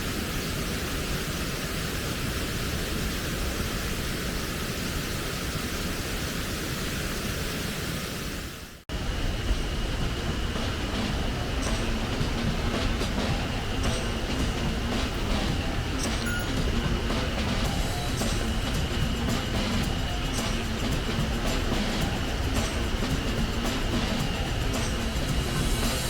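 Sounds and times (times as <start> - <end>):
steady rumbling noise: 0.0 - 26.0.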